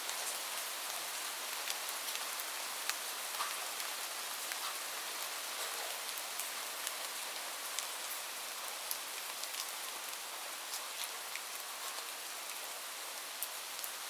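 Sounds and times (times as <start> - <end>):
raindrops ticking on a surface: 0.0 - 14.0.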